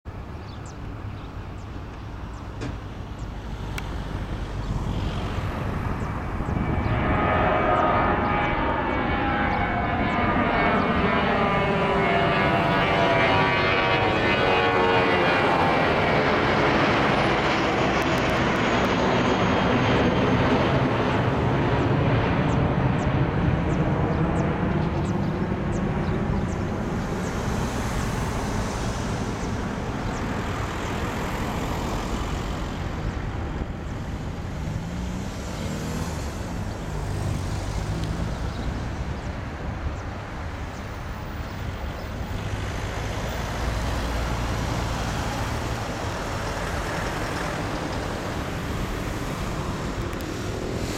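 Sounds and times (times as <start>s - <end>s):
road traffic: 0.1s - 50.9s
jet airliner climbing: 1.9s - 40.5s, 41.6s - 50.9s.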